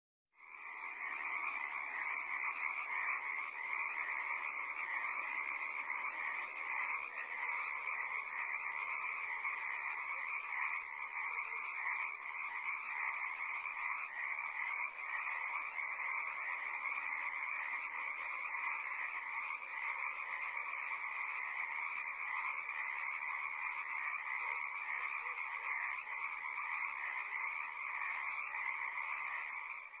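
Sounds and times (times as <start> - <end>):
frogs croaking: 0.3 - 30.0.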